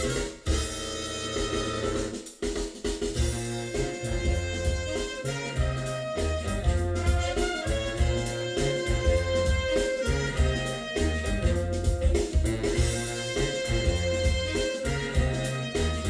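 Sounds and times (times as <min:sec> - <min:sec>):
instrumental music with pulsing bass: 0:00.0 - 0:02.4, 0:03.1 - 0:16.0.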